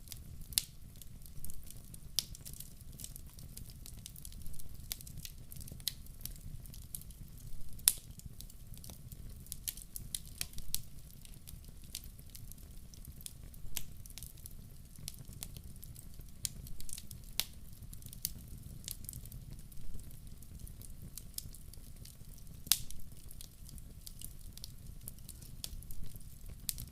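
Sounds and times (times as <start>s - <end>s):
low fire rumble: 0.0s - 26.9s
wood fire crackling and popping: 0.0s - 26.9s.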